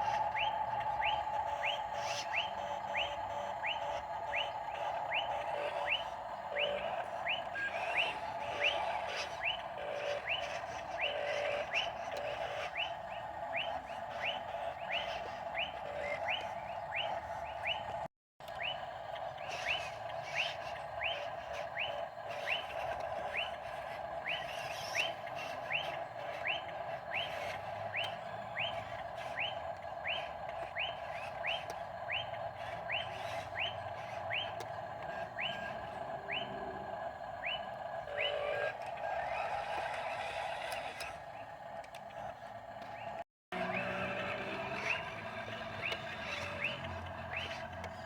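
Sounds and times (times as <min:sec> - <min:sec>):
steady mid-pitched hum: 0:00.0 - 0:48.0.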